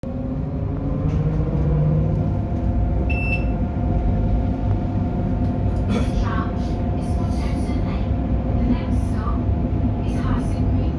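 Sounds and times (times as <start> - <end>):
tram rumble: 0.0 - 10.9.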